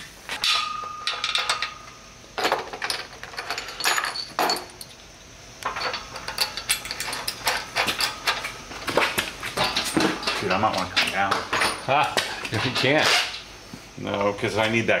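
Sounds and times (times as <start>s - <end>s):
bolts clinking against steel: 0.3s - 5.0s, 5.6s - 12.9s.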